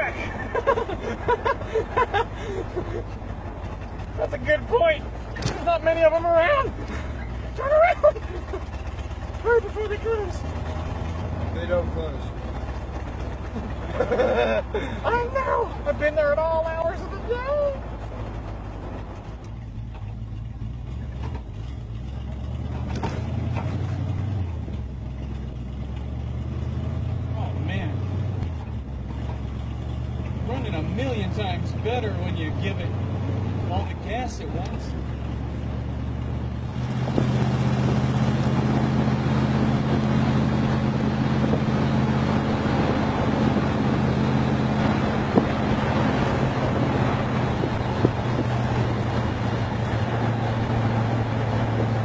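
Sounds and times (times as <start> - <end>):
pickup engine running: 0.0 - 52.0.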